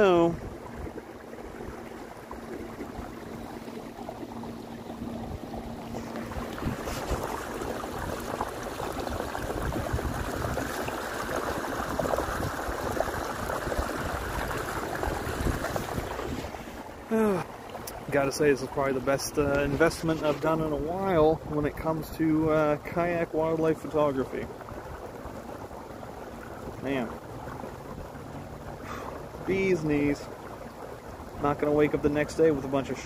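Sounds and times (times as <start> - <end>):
water rushing and splashing: 0.0 - 33.0.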